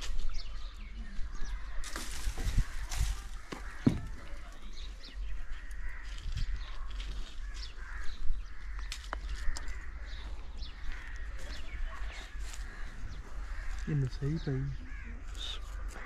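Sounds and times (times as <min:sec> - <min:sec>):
birds calling: 0:00.0 - 0:16.0
crows cawing: 0:01.3 - 0:04.6, 0:05.2 - 0:16.0.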